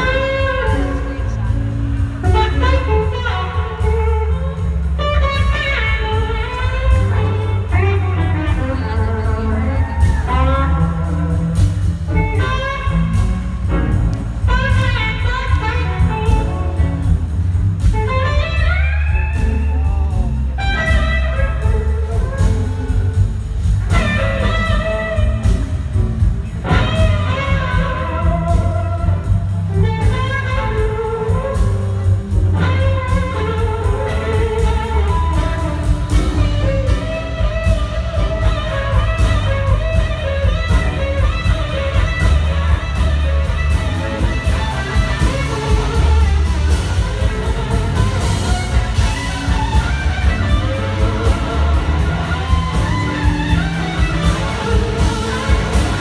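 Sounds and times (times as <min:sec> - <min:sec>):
bass: 0:00.0 - 0:56.0
drum kit: 0:00.0 - 0:56.0
rhythm guitars: 0:00.0 - 0:56.0.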